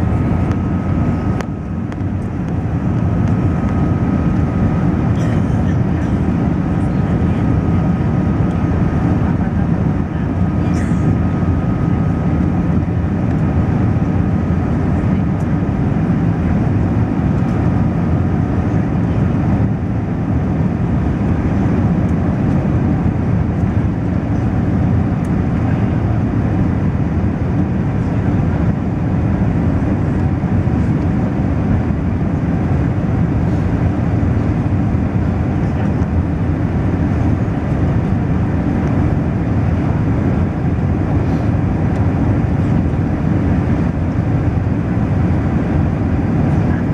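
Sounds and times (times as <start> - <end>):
airliner cabin rumble: 0.0 - 46.9.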